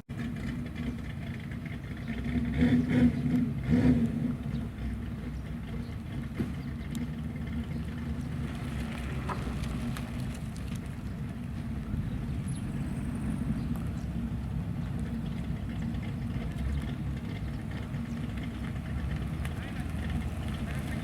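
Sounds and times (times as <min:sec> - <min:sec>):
car engine idling: 0:00.1 - 0:21.0.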